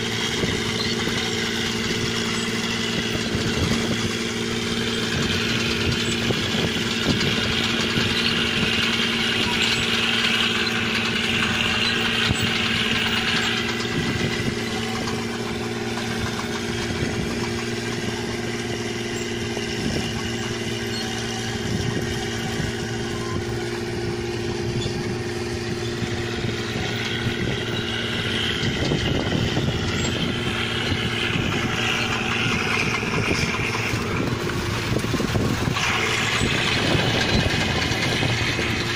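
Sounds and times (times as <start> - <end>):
diesel engine running: 0.0 - 38.9
rushing machine noise: 0.0 - 38.9.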